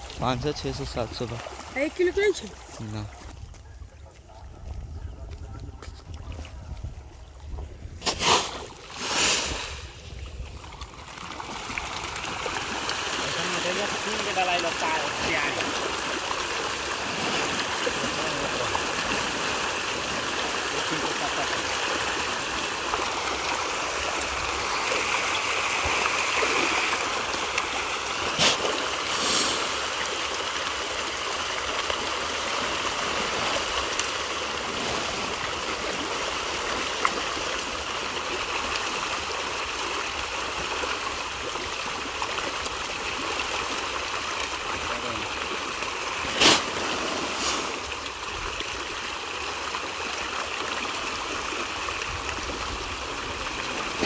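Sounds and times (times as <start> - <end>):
fish splashing at water surface: 0.8 - 2.8, 8.0 - 54.0.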